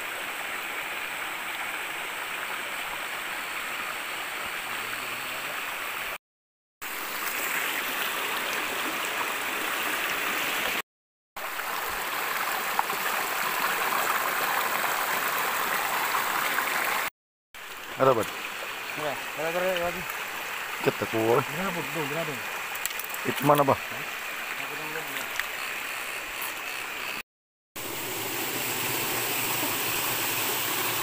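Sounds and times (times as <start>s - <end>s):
stream water rushing: 0.0s - 6.2s, 6.8s - 10.8s, 11.4s - 26.4s, 27.8s - 31.0s.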